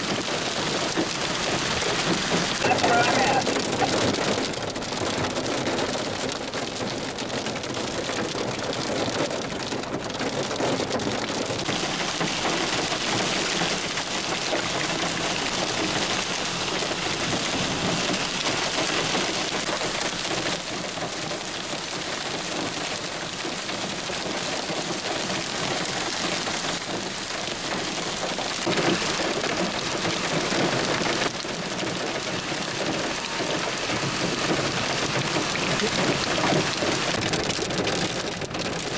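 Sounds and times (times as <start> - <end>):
heavy rain and hail: 0.0 - 38.9.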